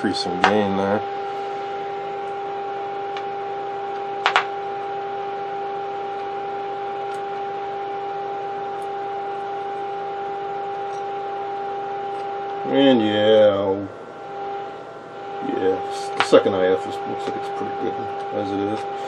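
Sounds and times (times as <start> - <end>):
steady test tone from loudspeaker: 0.0 - 19.0.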